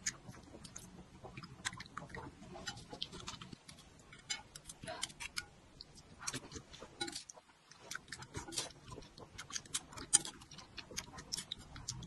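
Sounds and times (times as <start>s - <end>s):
person chewing and slurping: 0.0s - 12.0s.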